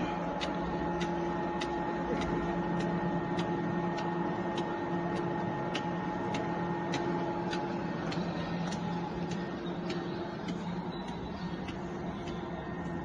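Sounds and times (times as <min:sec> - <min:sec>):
light mechanical ticking: 0:00.0 - 0:13.0
machine motor hum: 0:00.0 - 0:13.0.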